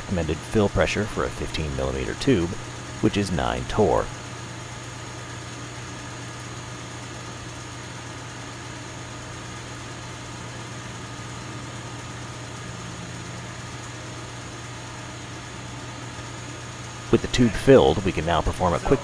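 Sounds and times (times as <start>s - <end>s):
vacuum pump and blower droning: 0.0s - 19.0s.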